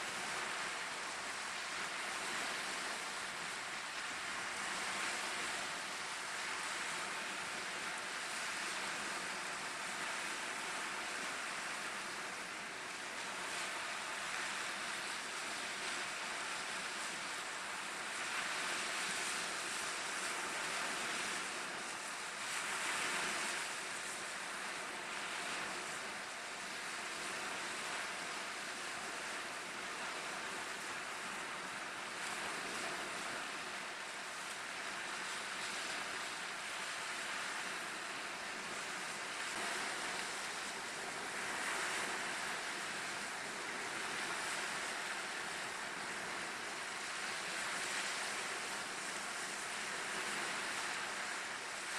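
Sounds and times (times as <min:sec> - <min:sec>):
waves washing up sandy shore: 0:00.0 - 0:51.9.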